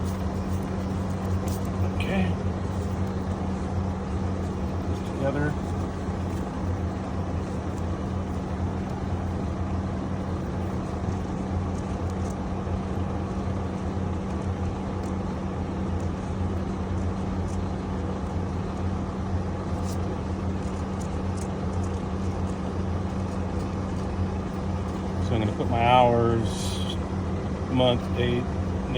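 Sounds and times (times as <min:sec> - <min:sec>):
low machine hum: 0:00.0 - 0:28.9.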